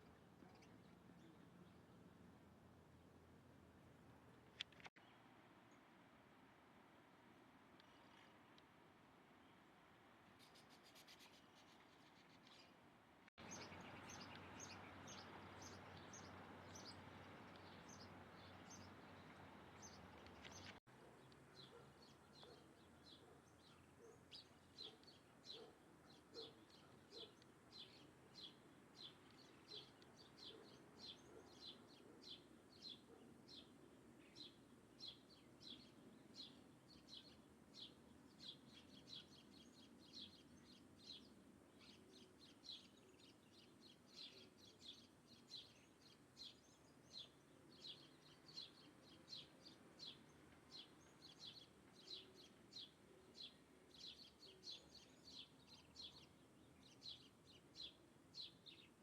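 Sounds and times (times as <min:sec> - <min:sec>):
faint background hiss: 0:00.0 - 0:59.0
small bird chirping: 0:10.4 - 0:12.8, 0:13.4 - 0:59.0.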